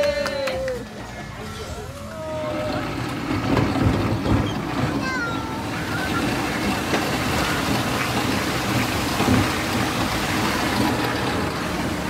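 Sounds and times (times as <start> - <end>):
water rushing down chute: 2.2 - 12.0.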